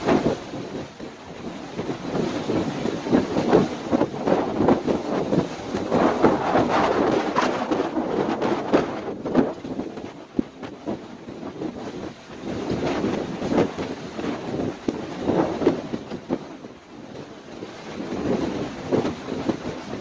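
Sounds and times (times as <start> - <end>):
strong wind gusting on microphone: 0.0 - 20.0.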